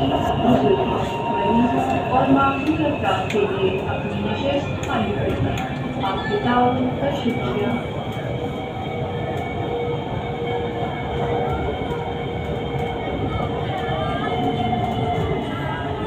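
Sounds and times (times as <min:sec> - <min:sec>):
metro train rumble: 0:00.0 - 0:16.0
train hum: 0:00.0 - 0:16.0.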